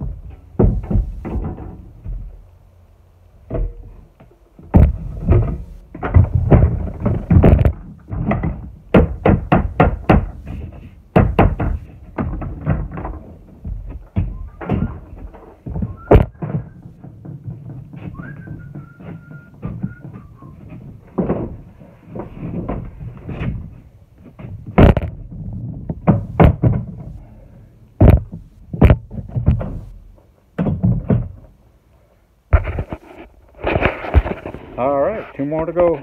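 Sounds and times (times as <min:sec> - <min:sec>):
dolly knocks and thunks: 0:00.0 - 0:02.5, 0:03.4 - 0:31.6.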